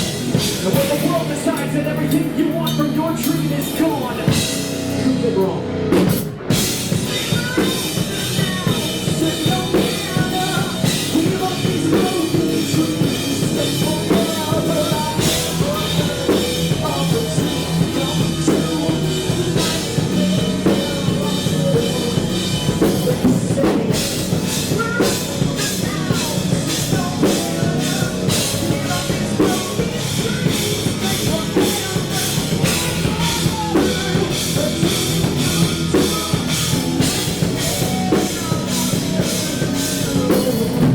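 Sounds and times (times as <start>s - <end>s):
drum kit beat: 0.0s - 40.9s
rock band playing: 0.0s - 40.9s.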